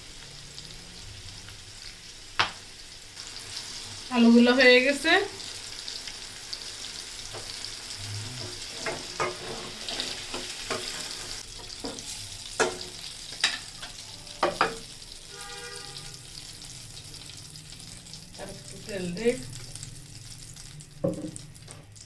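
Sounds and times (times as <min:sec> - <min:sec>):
potatoes sizzling in oil: 0:00.0 - 0:22.0.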